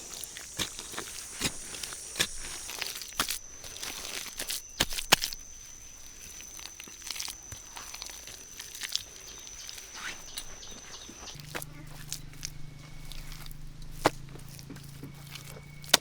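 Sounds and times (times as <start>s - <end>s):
crackles: 0.0s - 16.0s.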